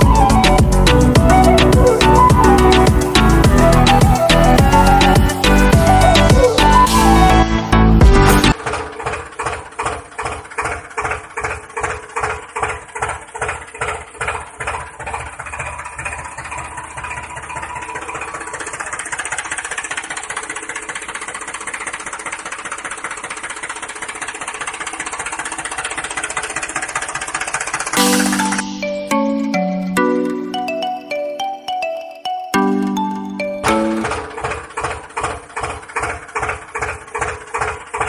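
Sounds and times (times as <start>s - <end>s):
engine chugging: 0.0s - 31.3s, 32.6s - 38.0s.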